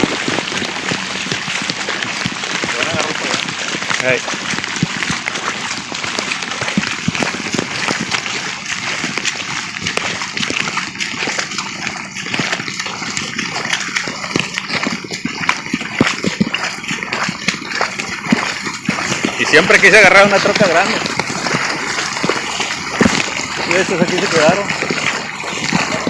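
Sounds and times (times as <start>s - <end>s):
floodwater splashing against truck: 0.0s - 26.0s.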